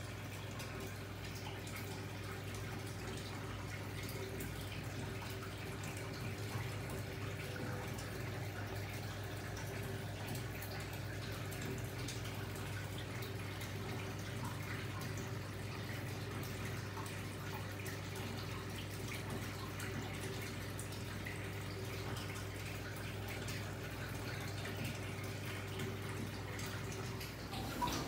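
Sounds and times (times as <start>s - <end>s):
aquarium filter humming: 0.0s - 28.0s
water trickling and dripping: 0.0s - 28.0s.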